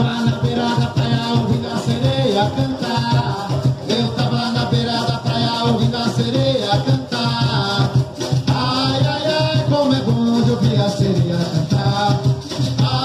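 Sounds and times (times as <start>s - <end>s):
hand drums beating: 0.0s - 13.0s
maracas shaking: 0.0s - 13.0s.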